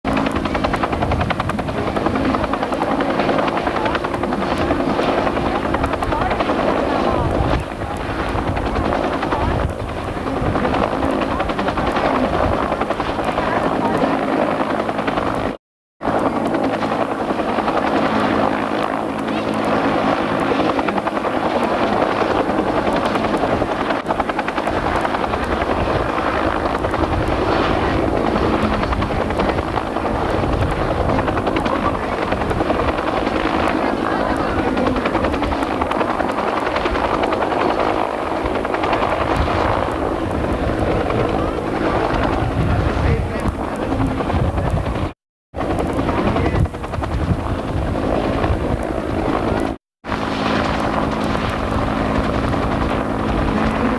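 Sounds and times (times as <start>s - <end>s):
helicopter rotor and turbine: 0.0s - 53.9s.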